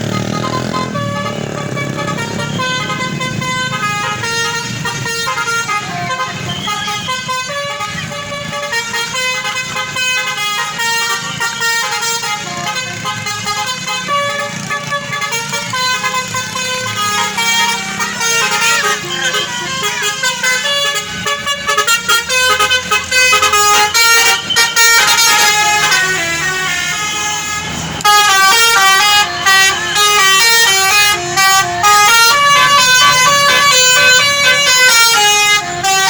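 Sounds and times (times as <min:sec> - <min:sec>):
musical air horn playing a tune: 0:00.0 - 0:36.0.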